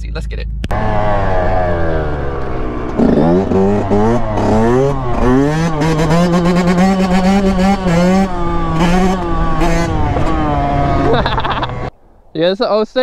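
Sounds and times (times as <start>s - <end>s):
dirt bike engine revving: 0.7s - 11.9s.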